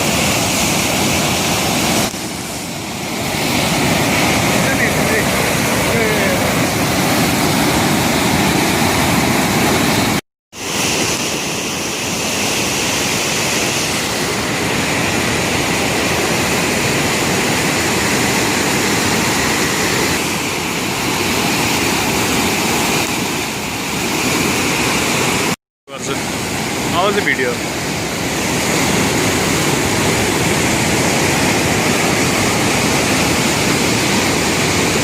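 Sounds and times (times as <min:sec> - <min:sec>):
floodwater rushing: 0:00.0 - 0:35.0.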